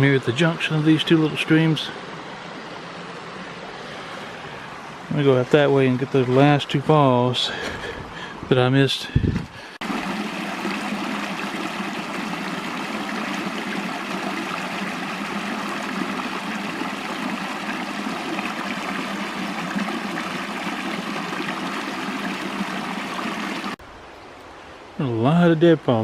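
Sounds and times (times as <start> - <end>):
stream rushing: 0.3 - 8.3, 9.6 - 25.0.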